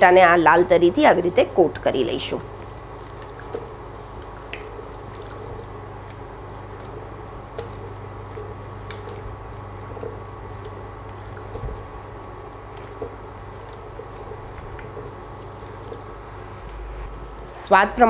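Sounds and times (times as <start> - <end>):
steady low hum: 0.0 - 18.0
wet squishing of stirred potatoes: 1.2 - 17.6.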